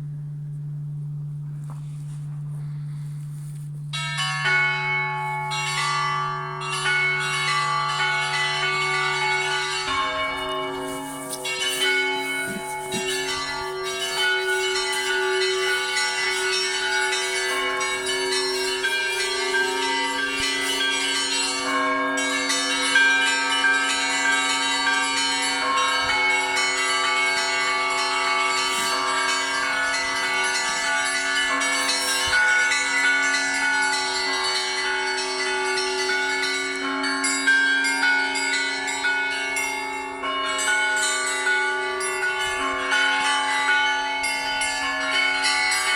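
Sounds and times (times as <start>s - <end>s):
church bells pealing: 0.0s - 45.9s
deep bells: 0.0s - 45.9s.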